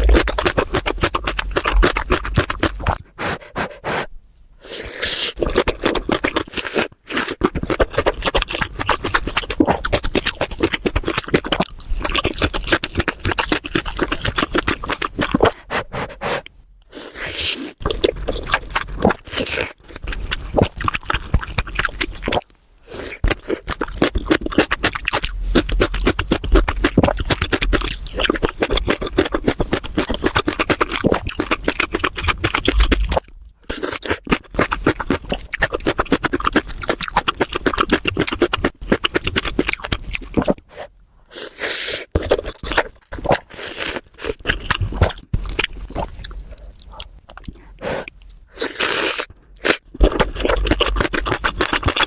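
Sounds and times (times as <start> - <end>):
chewing and crunching: 0.0 - 3.7, 5.3 - 40.7, 42.0 - 52.0.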